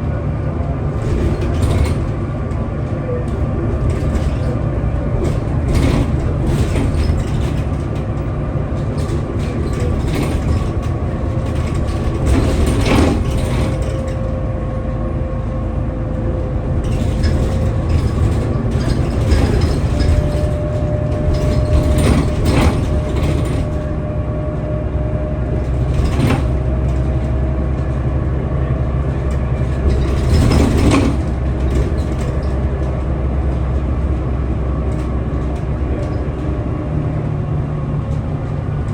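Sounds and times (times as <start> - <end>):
rattles and knocks: 0.0 - 14.8, 16.1 - 24.2, 25.4 - 38.9
bus engine rumble: 0.0 - 38.9.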